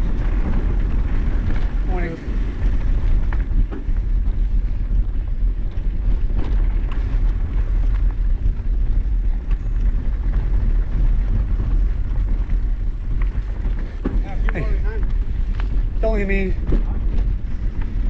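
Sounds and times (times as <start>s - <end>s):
bike clicks and rattles: 0.0s - 18.0s
bike tyre noise: 0.0s - 18.0s
wind on microphone: 0.0s - 18.0s.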